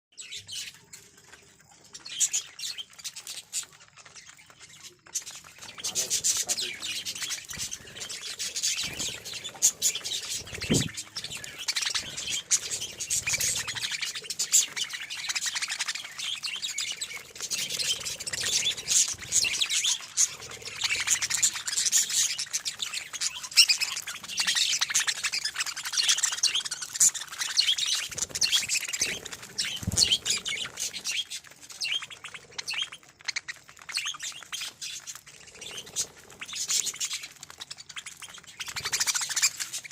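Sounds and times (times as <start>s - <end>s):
budgerigars chattering: 2.0s - 39.9s.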